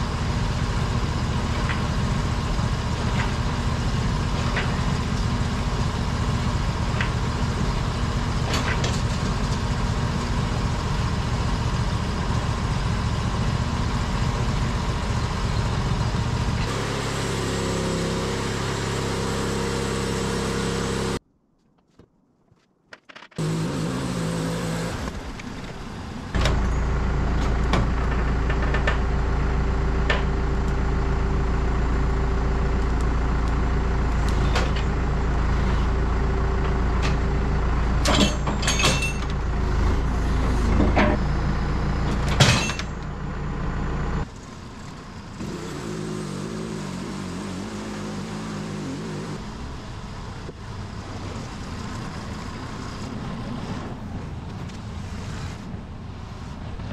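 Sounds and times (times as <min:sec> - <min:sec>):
sawmill petrol engine sawing log: 0:00.0 - 0:21.2, 0:23.4 - 0:53.1.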